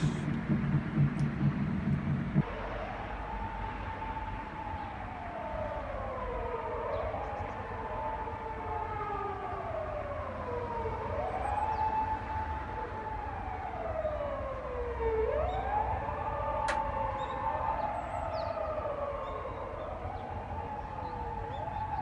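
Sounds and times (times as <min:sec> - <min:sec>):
emergency vehicle sirens wailing: 0:00.0 - 0:22.0.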